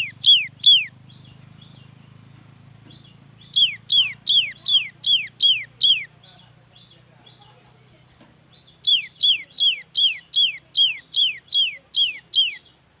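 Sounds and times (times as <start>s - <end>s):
bird singing whistled notes: 0.0s - 7.6s, 8.5s - 12.8s
faint soft bird notes: 0.0s - 13.0s.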